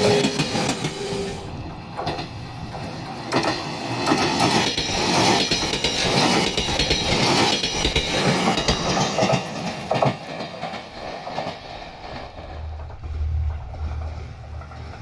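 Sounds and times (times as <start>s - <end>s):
train wheels clattering over rail joints: 0.0s - 15.0s.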